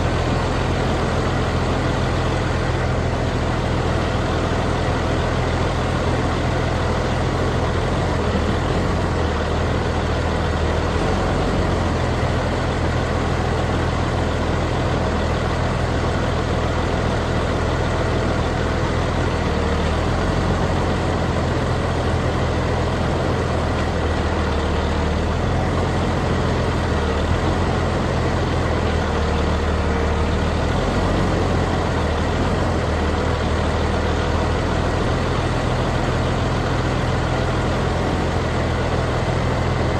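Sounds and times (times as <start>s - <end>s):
heavy engine humming: 0.0s - 39.9s.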